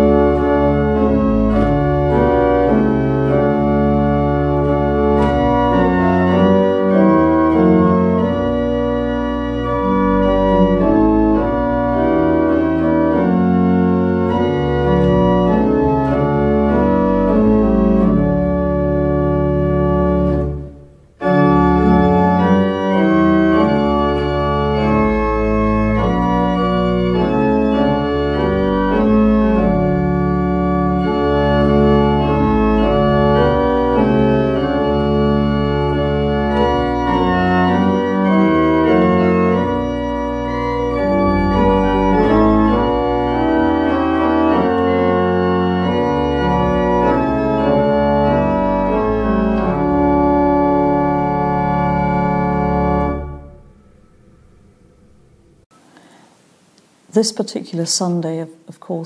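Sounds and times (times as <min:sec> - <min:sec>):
organ playing a hymn: 0:00.0 - 0:55.8.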